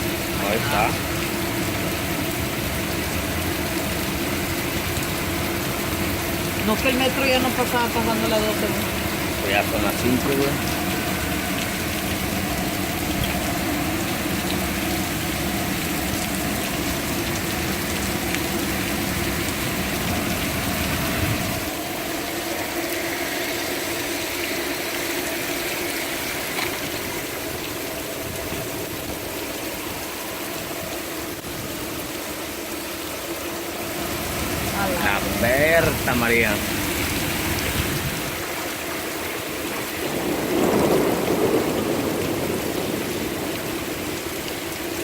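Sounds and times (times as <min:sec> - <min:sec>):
heavy rain hissing: 0:00.0 - 0:45.0.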